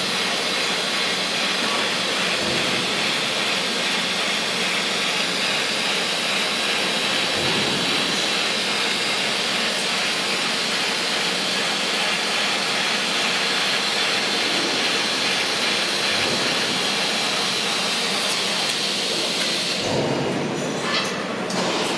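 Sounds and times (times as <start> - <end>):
welding machine hiss: 0.0 - 20.1.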